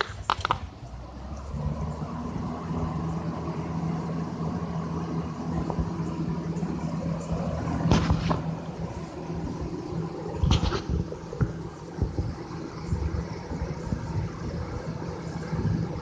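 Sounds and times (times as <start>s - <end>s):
box fan air rush: 0.0s - 16.0s
low motor hum: 0.0s - 16.0s.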